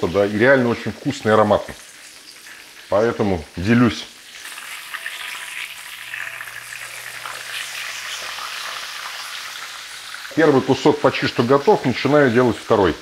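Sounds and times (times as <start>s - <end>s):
schnitzel sizzling in oil: 0.0s - 13.0s.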